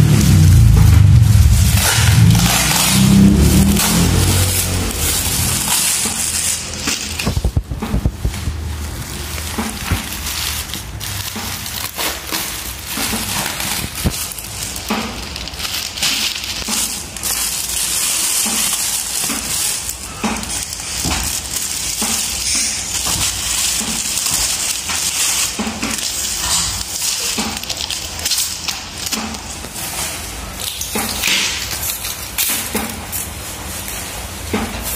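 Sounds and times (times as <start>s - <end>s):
plastic packaging crinkling: 0.0s - 34.9s.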